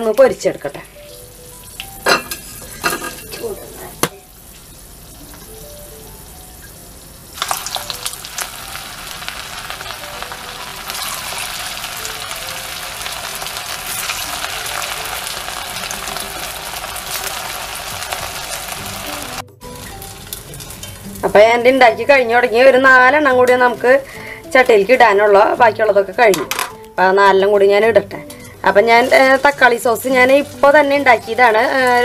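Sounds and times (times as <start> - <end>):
deep-frying sizzle: 0.0 - 25.6, 28.3 - 32.0.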